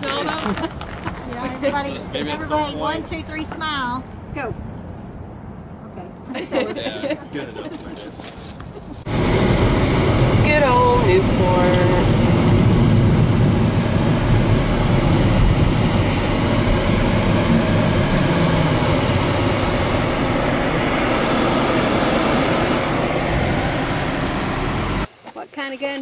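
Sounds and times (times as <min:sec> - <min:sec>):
car driving road and engine noise: 0:00.0 - 0:25.1.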